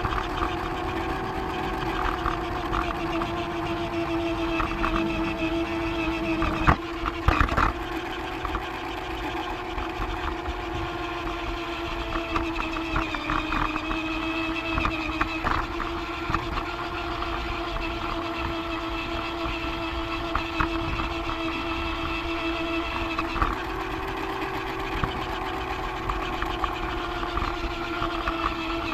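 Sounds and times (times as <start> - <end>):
electric motor whine: 0.0 - 28.9
toy train rattling on track: 0.0 - 28.9.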